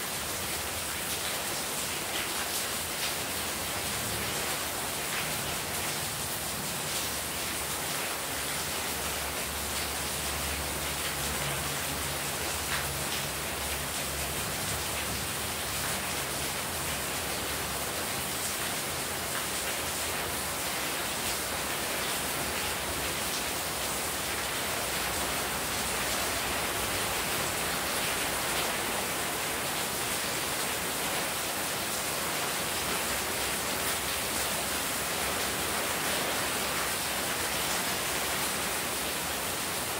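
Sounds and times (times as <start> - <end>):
heavy rain falling: 0.0 - 39.9
water pouring off roof: 0.0 - 39.9.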